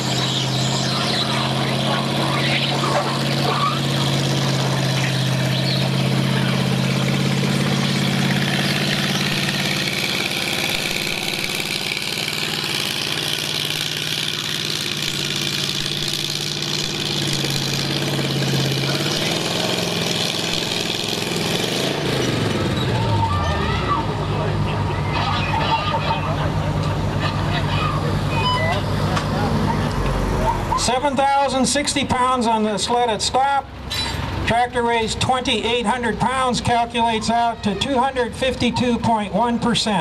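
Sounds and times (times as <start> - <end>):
tractor engine under heavy load: 0.0 - 40.0.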